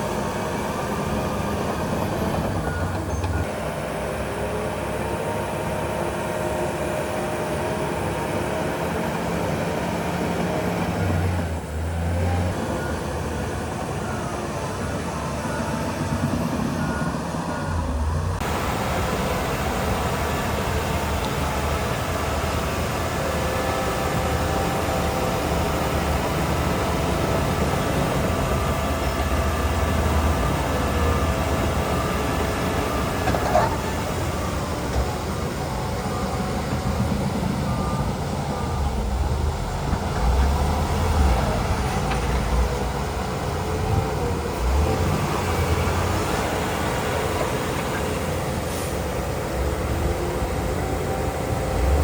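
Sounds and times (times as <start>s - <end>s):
diesel engine rumble: 0.0s - 52.0s.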